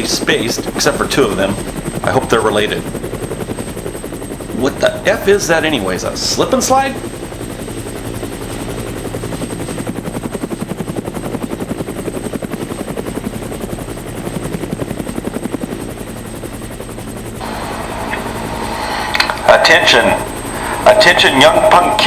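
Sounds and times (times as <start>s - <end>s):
helicopter rotor chop: 0.0s - 22.0s.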